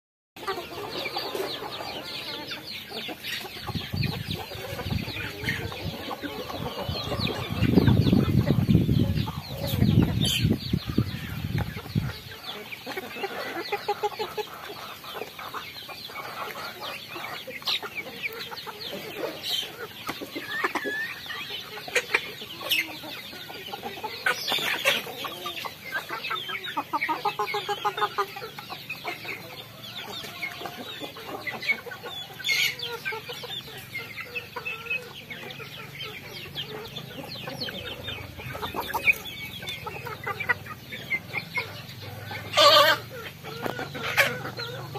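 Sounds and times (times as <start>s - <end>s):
chickens clucking: 0.4s - 44.9s.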